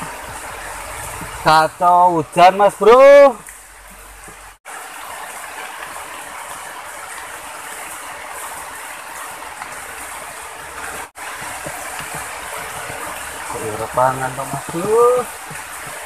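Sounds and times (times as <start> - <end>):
rain falling on a pool: 0.0 - 16.0.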